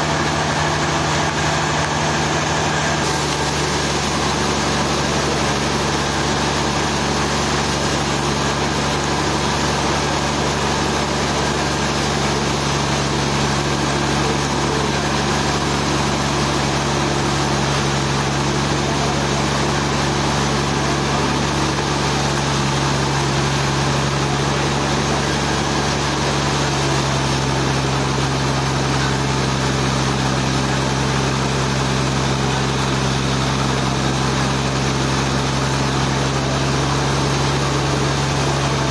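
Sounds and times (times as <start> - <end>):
sawmill engine humming: 0.0 - 38.9.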